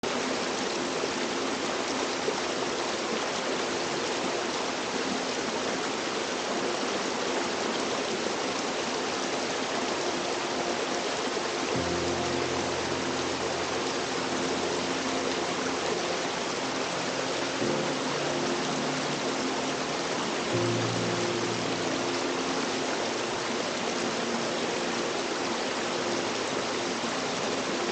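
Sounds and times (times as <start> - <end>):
waterfall rushing: 0.0 - 27.9
soft background music: 0.1 - 27.9.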